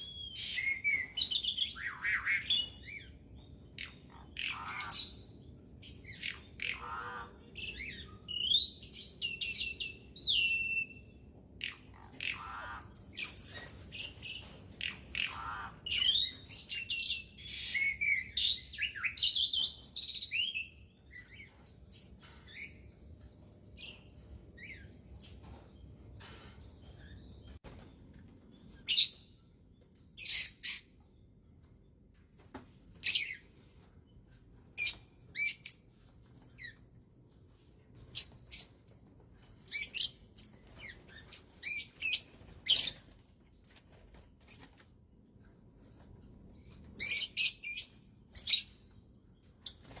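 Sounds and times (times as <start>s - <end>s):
songbird chirping and trilling: 0.0s - 31.8s, 32.9s - 44.8s.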